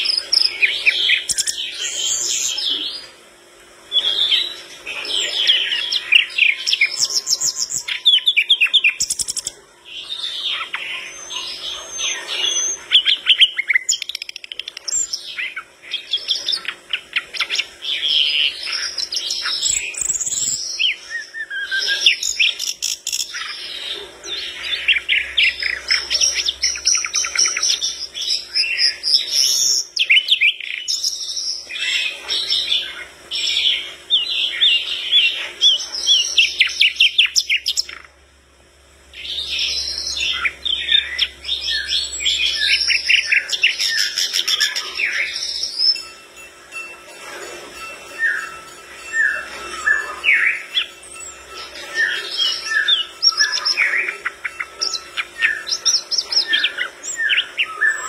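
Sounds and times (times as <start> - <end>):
bird singing trills and chatter: 0.0 - 58.0.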